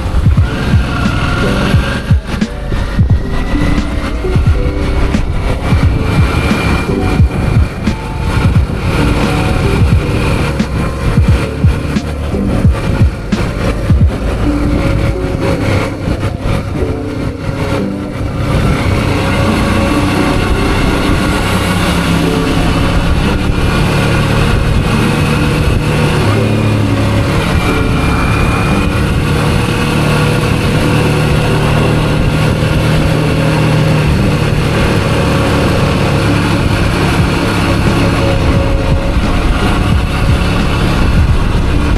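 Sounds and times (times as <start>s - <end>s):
motorcycle engine running: 0.0s - 41.9s
steady noisy rush: 0.0s - 41.9s.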